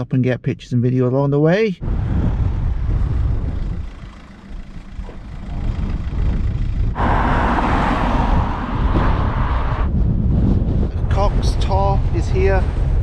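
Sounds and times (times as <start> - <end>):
strong wind buffeting microphone: 1.8 - 13.0.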